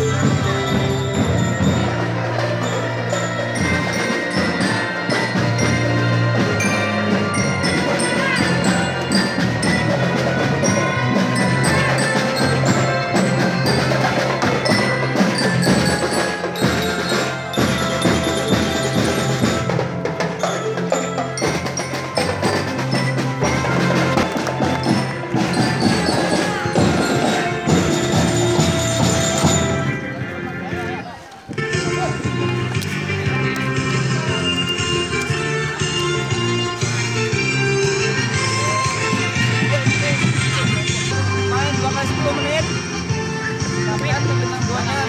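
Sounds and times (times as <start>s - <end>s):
music with percussive beat: 0.0s - 31.0s, 31.6s - 45.0s.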